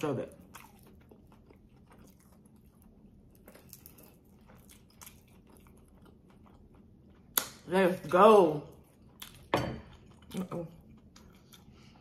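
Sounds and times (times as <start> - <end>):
faint chewing with mouth clicks: 0.3 - 7.7, 8.7 - 12.0.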